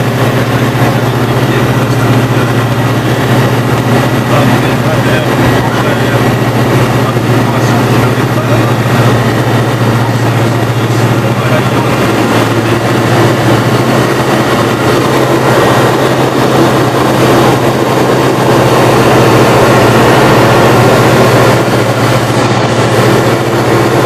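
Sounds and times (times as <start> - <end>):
propeller engine drone: 0.0 - 24.0.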